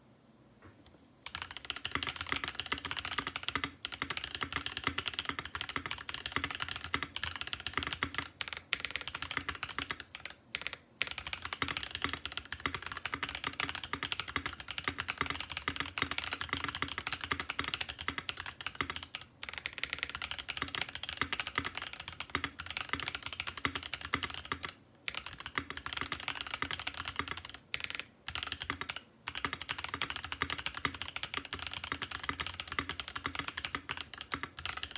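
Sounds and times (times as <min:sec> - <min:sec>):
fast typing on mechanical keyboard: 0:01.2 - 0:34.9.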